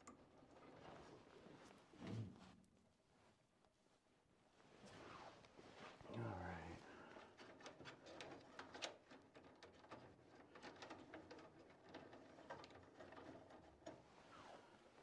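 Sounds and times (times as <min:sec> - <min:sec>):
small clicks and rustles of wires: 0:00.0 - 0:15.0.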